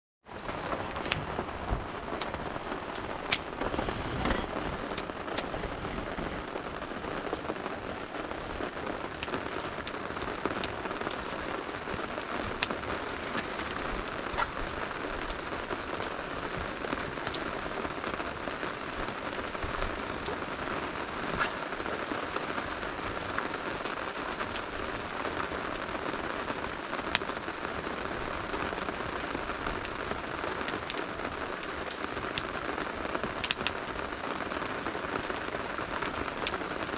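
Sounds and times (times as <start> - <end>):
steady rain: 0.2 - 36.9
campfire crackling: 0.3 - 36.9.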